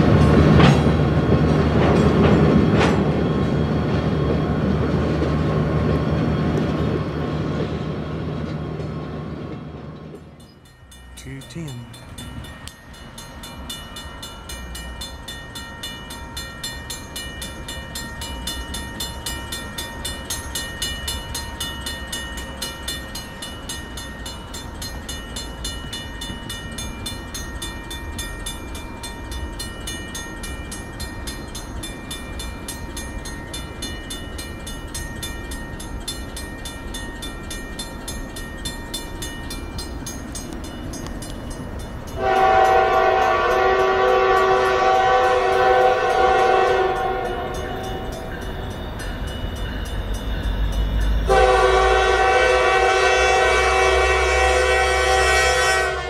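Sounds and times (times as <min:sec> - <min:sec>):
railroad crossing bell ringing: 0:00.0 - 0:56.0
train rumble: 0:00.0 - 0:56.0.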